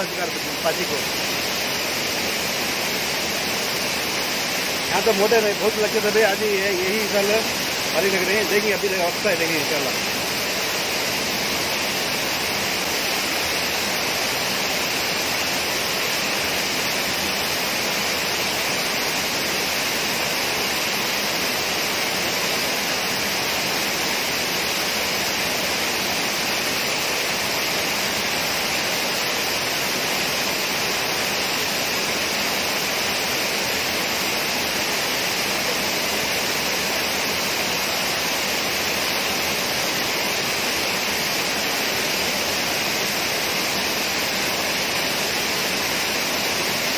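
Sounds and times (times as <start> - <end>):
water rushing over a weir: 0.0 - 46.9.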